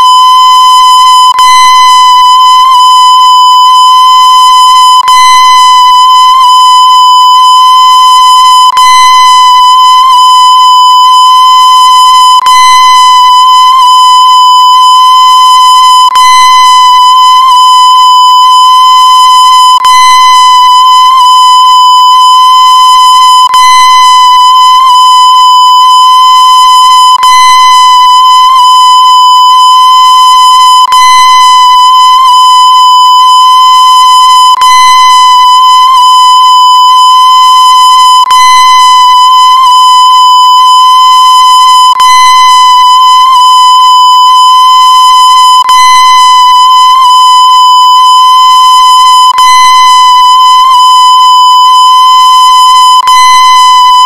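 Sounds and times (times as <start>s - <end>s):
electronic test-tone beep: 0.0s - 54.0s.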